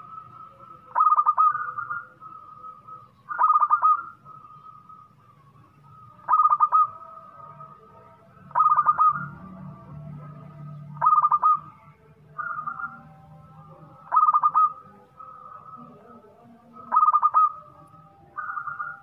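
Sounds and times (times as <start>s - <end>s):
dove cooing: 0.0s - 5.1s, 6.0s - 7.9s, 8.5s - 19.0s.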